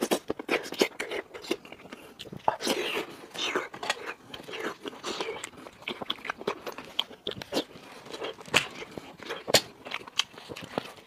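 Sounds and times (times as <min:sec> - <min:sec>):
person chewing: 0:00.0 - 0:11.0.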